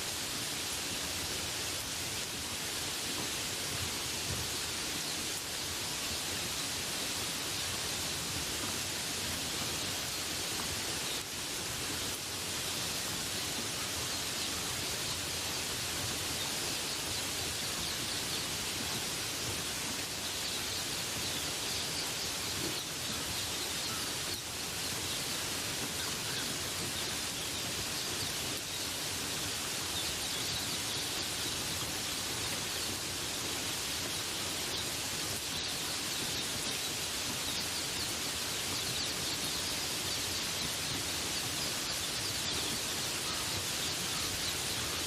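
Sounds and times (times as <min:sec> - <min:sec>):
rain falling in forest: 0:00.0 - 0:45.0.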